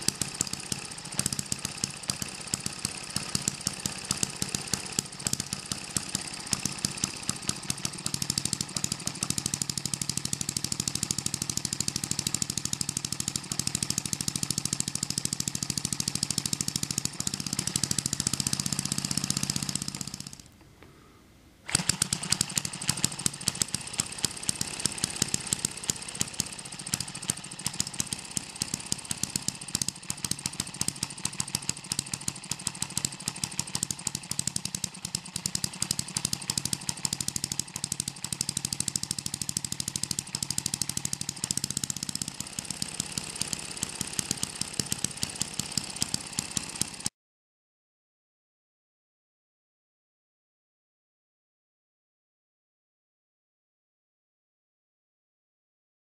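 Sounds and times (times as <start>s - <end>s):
model engine clattering: 0.0s - 20.6s, 21.7s - 47.1s.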